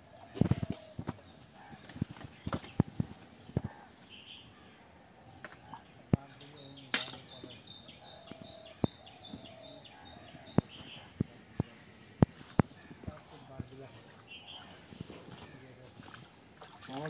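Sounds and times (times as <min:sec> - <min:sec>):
bird chirping: 0:00.4 - 0:16.2.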